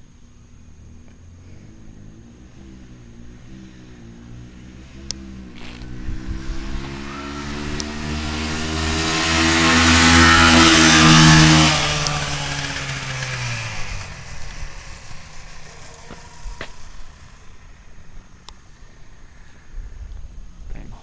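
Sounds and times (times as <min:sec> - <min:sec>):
dirt bike passing at speed: 0:01.1 - 0:18.7.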